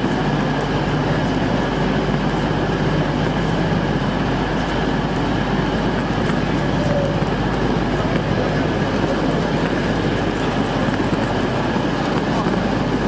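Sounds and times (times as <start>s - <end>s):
train rumbling inside carriage: 0.0s - 13.0s.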